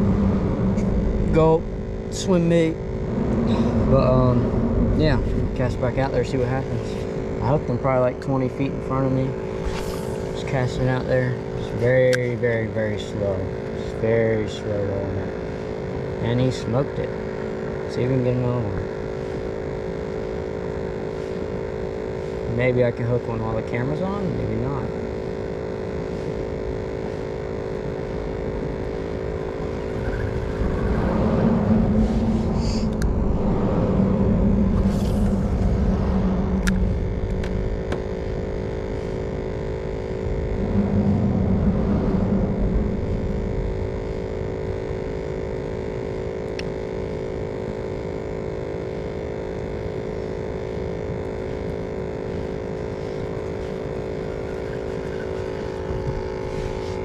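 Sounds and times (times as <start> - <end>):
traffic rumble and hum: 0.0 - 57.0.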